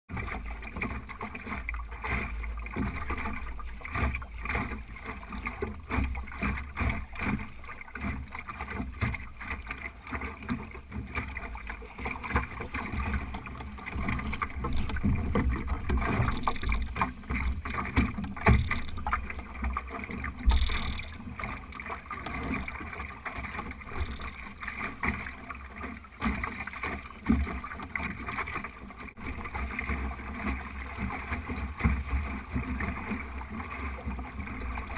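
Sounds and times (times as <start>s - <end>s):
knocks from hull and rigging: 0.1s - 30.0s
water rushing along a boat hull: 0.1s - 34.9s.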